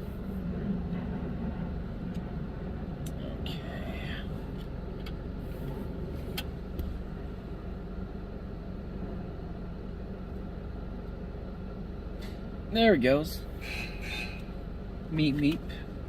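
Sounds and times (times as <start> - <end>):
car idling: 0.0 - 16.0.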